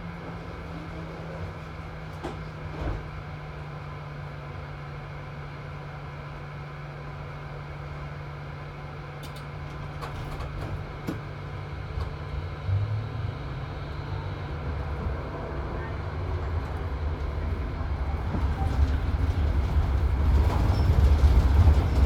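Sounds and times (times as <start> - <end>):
tram electrical hum: 0.0 - 22.0
tram running noise: 0.0 - 22.0.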